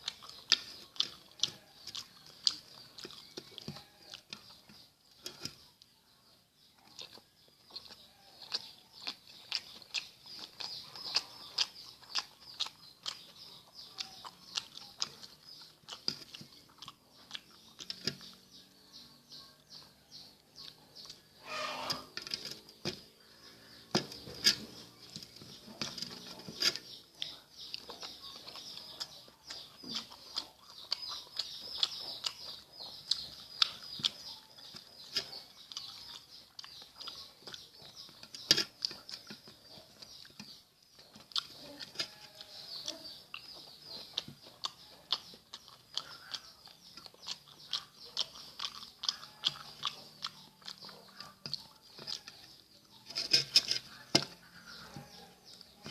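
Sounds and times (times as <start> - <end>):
person chewing with wet mouth sounds: 0.0 - 55.9.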